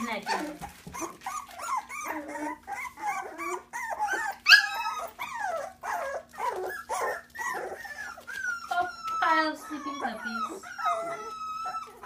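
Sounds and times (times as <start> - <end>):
puppies whining and squealing: 0.0 - 12.0.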